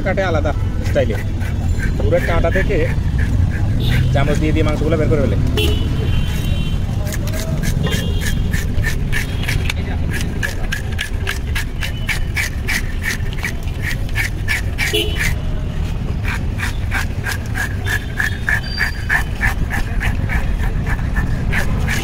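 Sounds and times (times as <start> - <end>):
knife scraping fish scales: 0.9 - 4.8, 6.2 - 15.5, 16.2 - 22.0.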